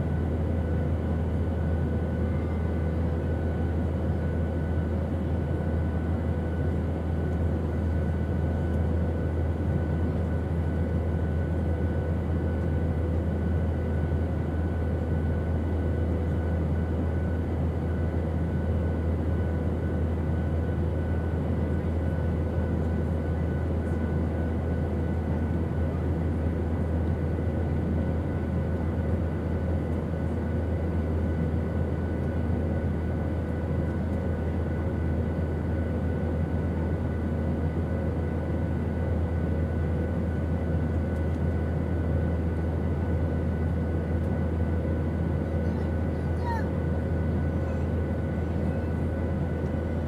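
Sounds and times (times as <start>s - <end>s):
airplane engine drone: 0.0s - 50.0s.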